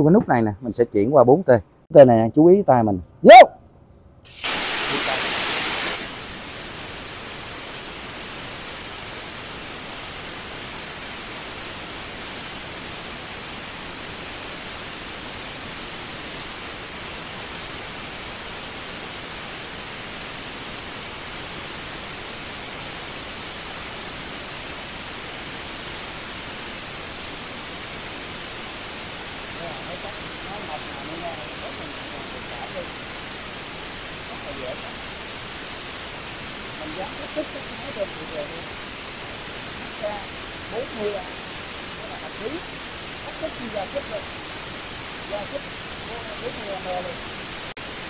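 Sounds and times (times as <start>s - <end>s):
plasma cutter hissing: 4.2s - 48.0s.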